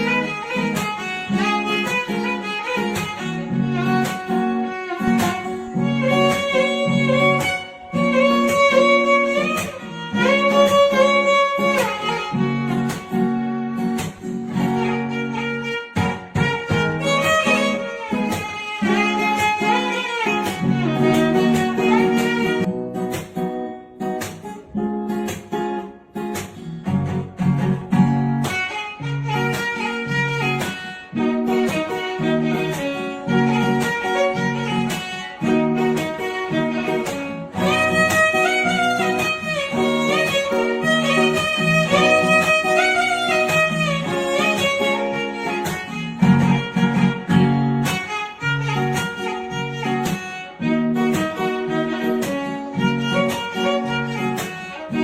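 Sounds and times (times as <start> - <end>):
guitar and violin melody: 0.0 - 55.0
plucked rhythm: 0.0 - 55.0.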